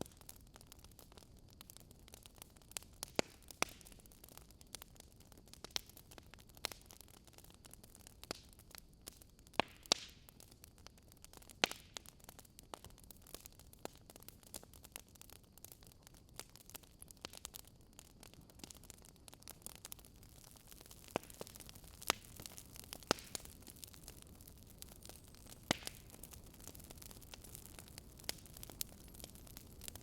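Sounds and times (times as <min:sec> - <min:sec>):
fire crackling in fireplace: 0:00.0 - 0:30.0.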